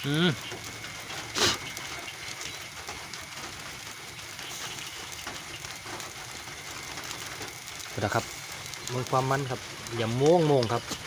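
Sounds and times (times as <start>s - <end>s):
rain falling: 0.0s - 11.0s
wood fire embers crackling: 0.0s - 11.0s.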